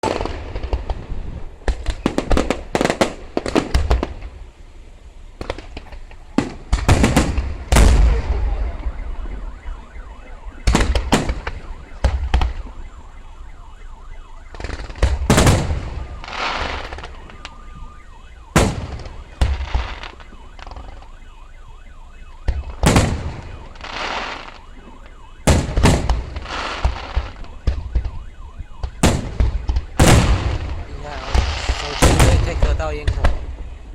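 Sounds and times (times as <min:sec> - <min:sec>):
fireworks bursting with bangs: 0:00.0 - 0:04.6, 0:05.3 - 0:12.9, 0:14.4 - 0:21.4, 0:22.2 - 0:33.7.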